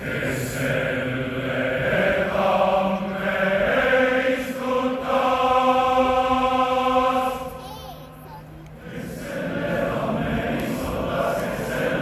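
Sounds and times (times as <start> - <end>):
massed choir singing chords: 0.0 - 12.0.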